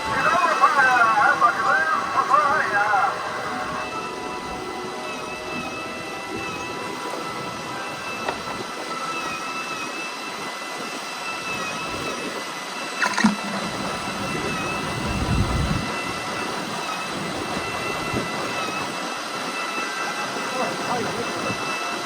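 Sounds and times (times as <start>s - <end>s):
boat engine running: 0.0s - 12.3s, 13.0s - 19.6s
faint wavering whine: 0.0s - 22.0s
noisy hiss: 0.0s - 22.0s.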